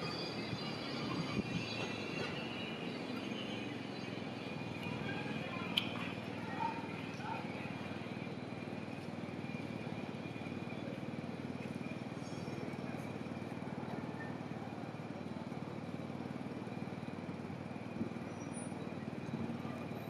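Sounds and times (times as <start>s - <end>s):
city street traffic rumble: 0.0s - 20.0s
trams running on tracks: 0.0s - 20.0s.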